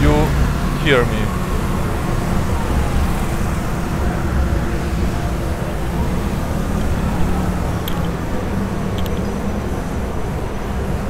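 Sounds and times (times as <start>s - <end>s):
motorbike engines droning: 0.0s - 11.0s.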